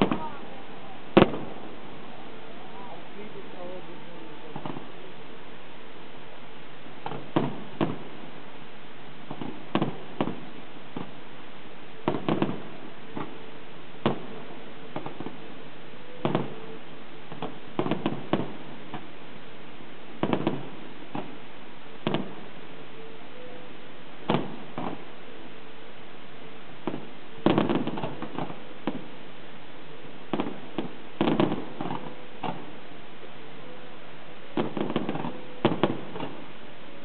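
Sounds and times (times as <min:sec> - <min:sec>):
fireworks bangs: 0:00.0 - 0:37.0
steady hiss: 0:00.0 - 0:37.0.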